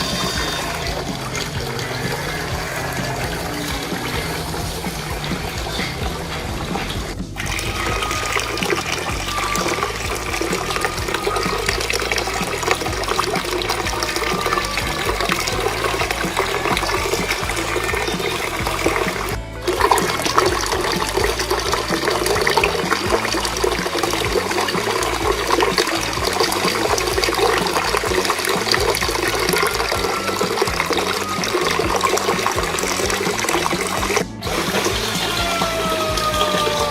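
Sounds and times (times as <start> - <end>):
fountain water splashing: 0.0 - 36.9.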